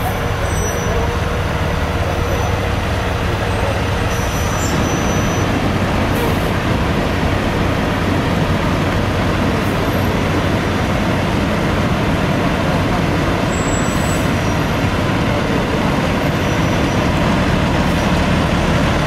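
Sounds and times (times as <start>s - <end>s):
low vehicle engine noise: 0.0s - 19.0s.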